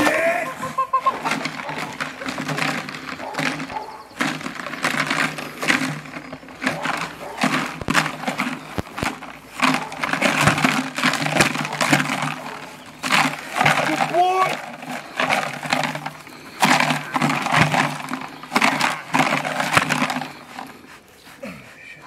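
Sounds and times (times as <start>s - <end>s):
plastic container rattling: 0.0s - 21.0s.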